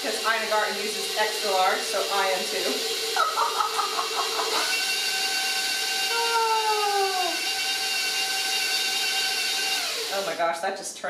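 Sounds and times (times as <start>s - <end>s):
stand mixer motor whine: 0.0s - 10.4s.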